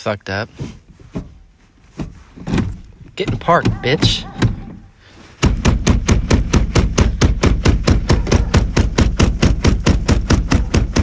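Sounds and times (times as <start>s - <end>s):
pounding on gear shifter: 1.1s - 11.0s.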